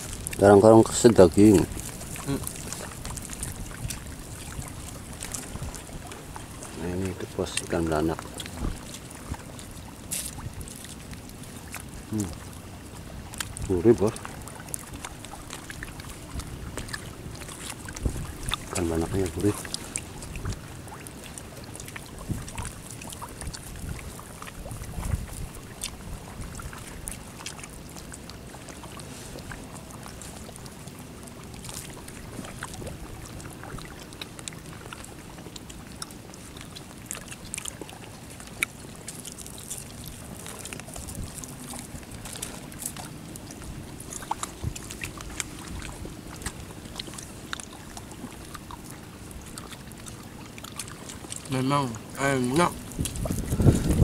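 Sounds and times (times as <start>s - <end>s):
wind rumbling on microphone: 0.0s - 28.6s, 29.4s - 35.4s, 36.3s - 51.3s, 52.0s - 54.0s.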